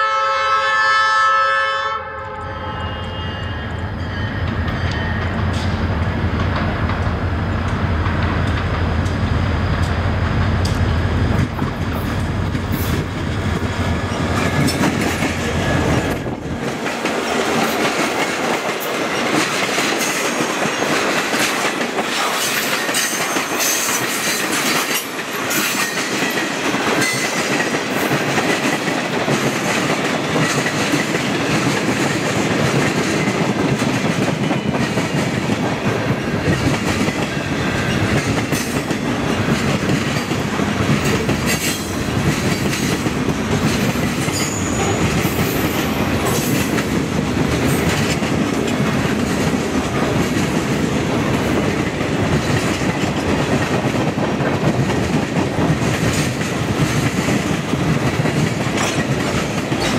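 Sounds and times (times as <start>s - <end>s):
diesel locomotive engines rumbling: 0.0s - 59.9s
train wheels rumbling and clicking: 3.0s - 59.9s.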